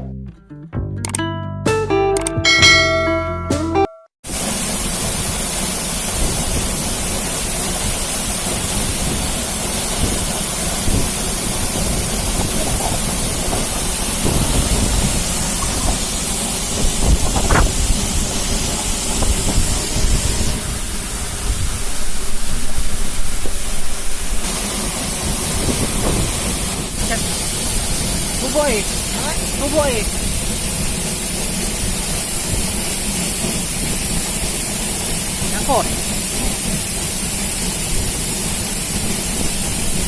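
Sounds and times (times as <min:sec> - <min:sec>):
waterfall rushing: 0:04.3 - 0:40.0.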